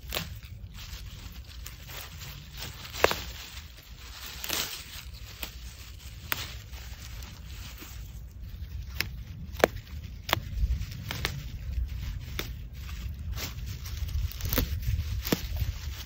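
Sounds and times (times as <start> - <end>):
plant stems snapping: 0.0 - 8.1, 8.7 - 11.6, 12.2 - 16.0
leaves rustling: 0.0 - 16.0
low steady rumble: 0.0 - 16.0.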